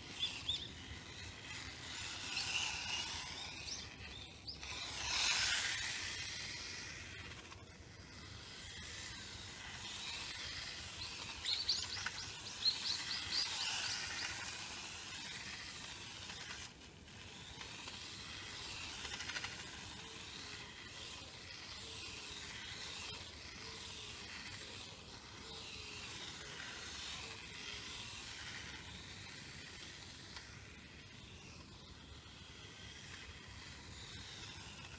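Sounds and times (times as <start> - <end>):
steady outdoor hiss: 0.0 - 34.9.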